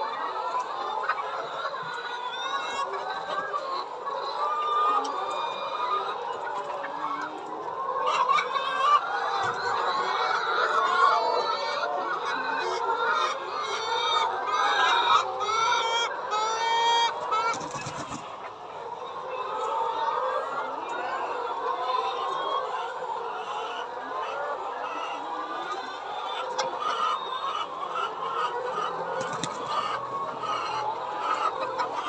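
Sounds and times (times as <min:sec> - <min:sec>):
hens clucking: 0:00.0 - 0:32.0.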